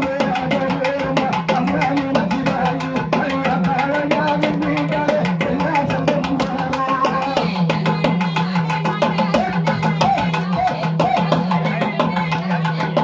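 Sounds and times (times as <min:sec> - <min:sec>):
fast steady drum beat: 0:00.0 - 0:13.0.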